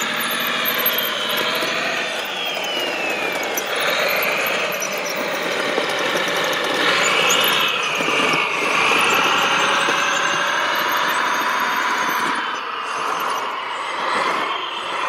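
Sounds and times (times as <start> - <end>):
model loader motors whining: 0.0 - 15.0.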